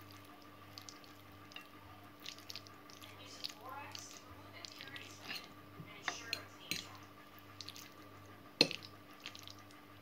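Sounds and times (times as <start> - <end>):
faint steady hum: 0.0 - 10.0
spaghetti squishing: 0.0 - 10.0.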